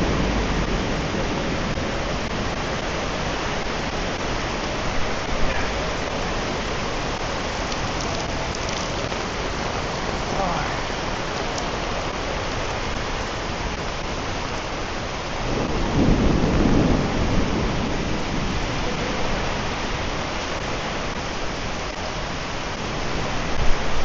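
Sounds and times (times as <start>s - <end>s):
heavy rain pouring: 0.0s - 24.0s
low rumble of thunder: 0.0s - 24.0s.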